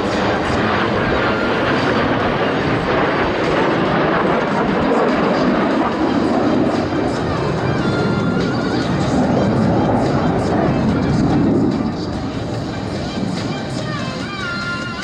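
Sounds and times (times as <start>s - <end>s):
jet aircraft flying overhead: 0.0s - 15.0s.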